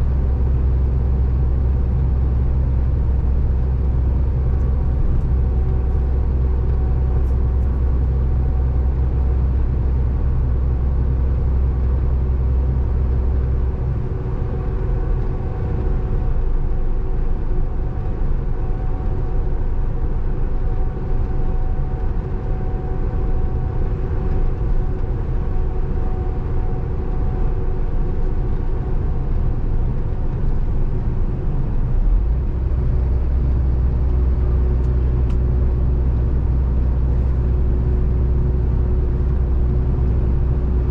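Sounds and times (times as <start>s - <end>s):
truck diesel engine drone: 0.0s - 40.9s.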